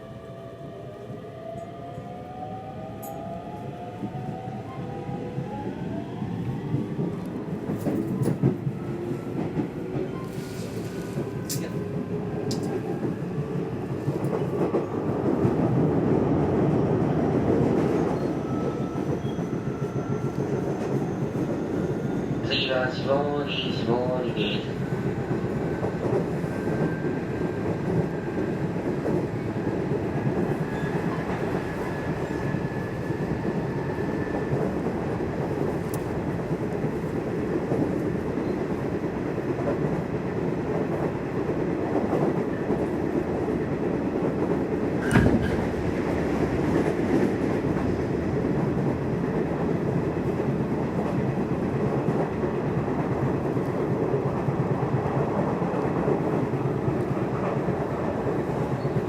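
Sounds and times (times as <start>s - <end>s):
train wheels rumbling on track: 2.9s - 59.0s.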